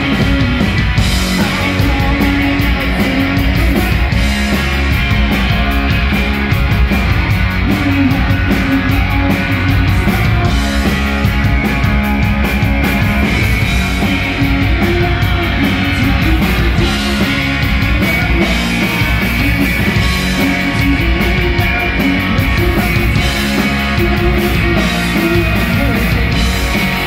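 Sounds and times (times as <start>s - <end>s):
bass guitar: 0.0s - 27.0s
drum kit with cymbals: 0.0s - 27.0s
electric guitar: 0.0s - 27.0s.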